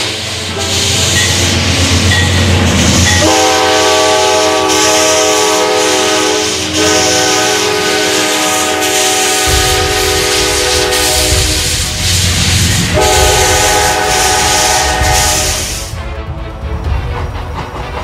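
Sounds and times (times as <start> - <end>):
multi-tone train horn: 0.0 - 2.4, 3.0 - 16.0
train rumbling past: 0.0 - 18.0.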